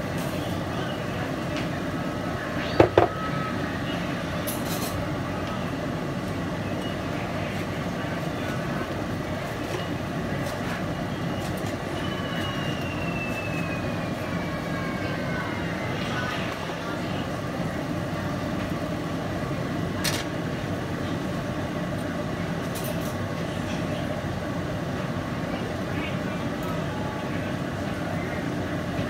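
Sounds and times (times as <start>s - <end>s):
exhaust fan running: 0.0s - 29.0s.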